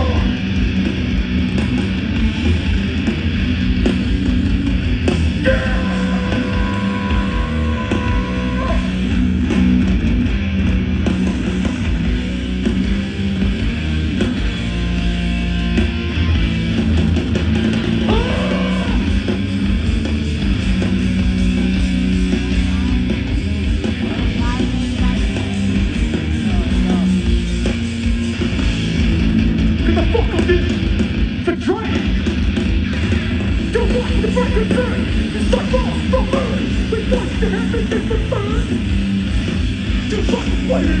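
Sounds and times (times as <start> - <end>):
hardcore band playing loud: 0.0 - 41.0.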